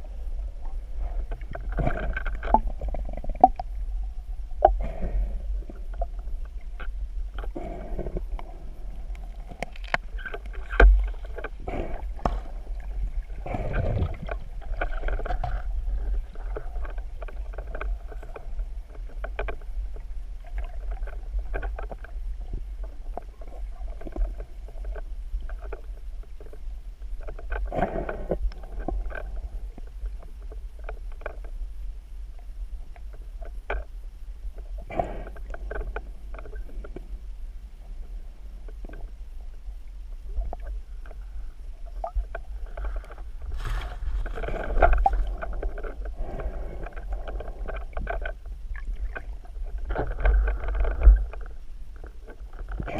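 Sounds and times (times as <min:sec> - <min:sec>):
muffled underwater rumble: 0:00.0 - 0:52.9.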